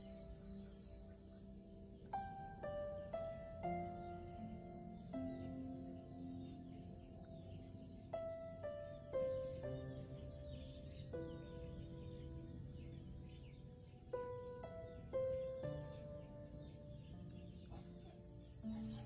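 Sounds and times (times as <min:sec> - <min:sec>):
crickets chirring: 0:00.0 - 0:19.0
slow music of single picked notes: 0:00.0 - 0:19.0.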